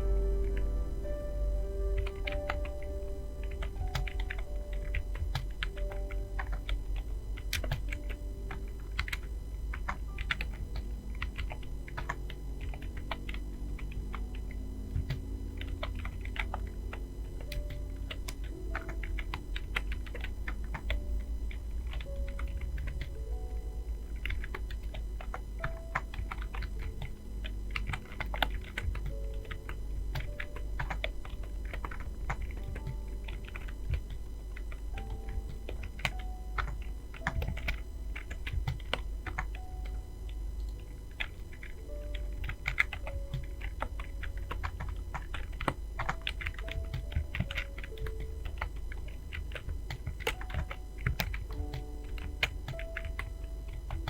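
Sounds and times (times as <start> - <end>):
soft background music: 0.0 - 54.0
fast typing on keyboard: 1.9 - 54.0.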